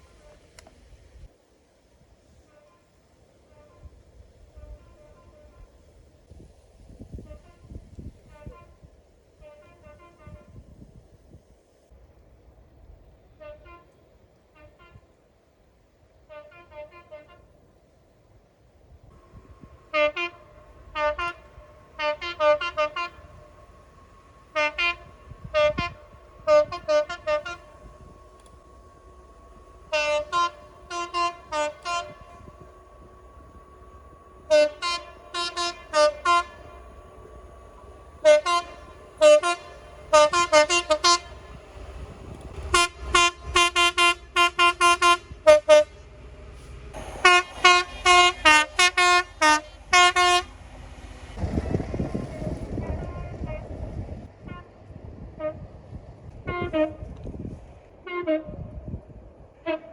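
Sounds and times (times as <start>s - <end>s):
low rumble of trains: 0.0s - 59.9s
train horn short toots: 2.3s - 5.9s, 7.0s - 10.8s, 13.3s - 15.2s, 16.2s - 17.6s, 19.2s - 50.6s, 52.7s - 55.7s, 56.4s - 59.9s.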